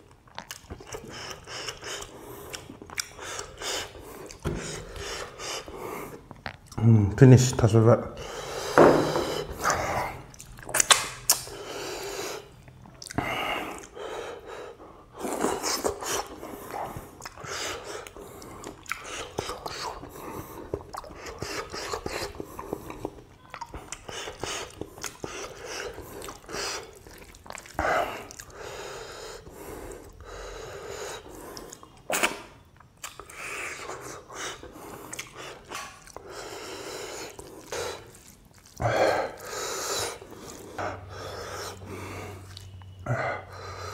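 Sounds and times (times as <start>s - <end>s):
wet chewing: 0.0s - 6.8s, 9.6s - 14.0s, 15.2s - 28.7s, 31.2s - 43.0s.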